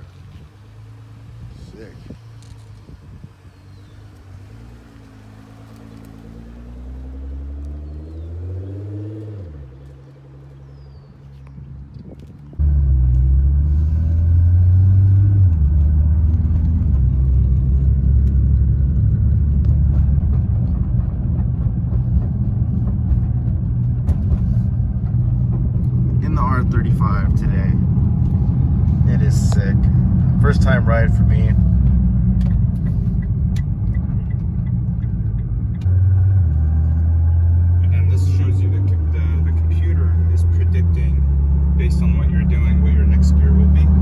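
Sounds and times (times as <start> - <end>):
car engine revving: 0.0 - 44.0
low engine and road rumble: 0.0 - 44.0.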